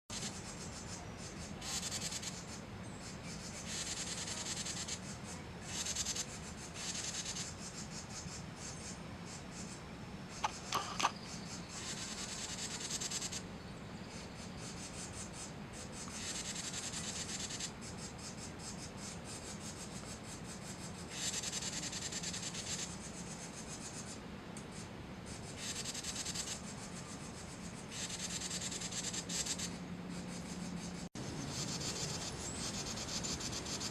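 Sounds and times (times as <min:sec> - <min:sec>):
wren raspy warning calls: 0:00.1 - 0:33.9.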